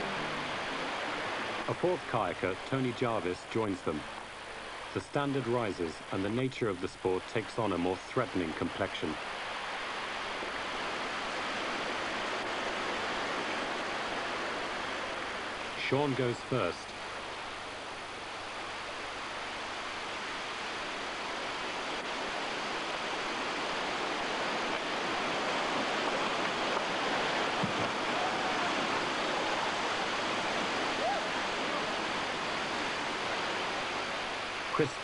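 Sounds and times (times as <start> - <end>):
waterfall rushing water: 0.0 - 35.0.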